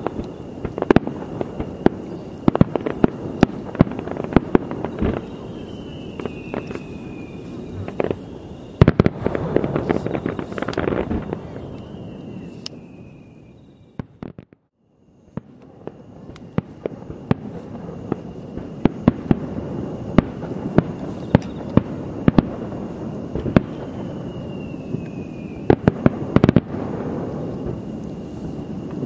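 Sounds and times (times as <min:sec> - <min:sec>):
fireworks bursting: 0:00.0 - 0:29.0
fireworks crackling: 0:00.0 - 0:29.0.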